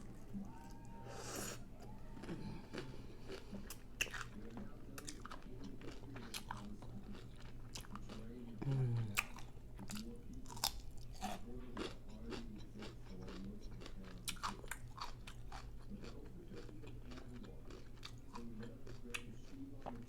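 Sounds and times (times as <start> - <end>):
chewing crunchy taco shell: 0.0 - 20.0
steady low hum: 0.0 - 20.0.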